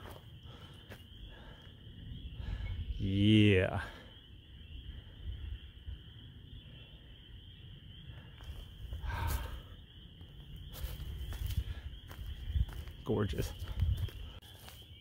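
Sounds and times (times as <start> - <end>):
distant frogs trilling: 0.0 - 15.0
wind rumbling on microphone: 1.2 - 14.4.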